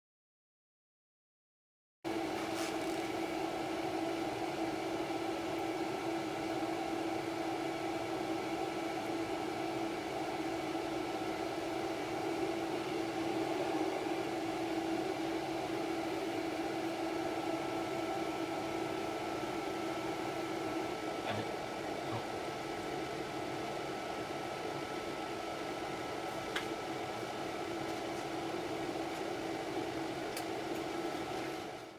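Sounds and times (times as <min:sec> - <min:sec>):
electric fan humming: 0:02.1 - 0:31.9.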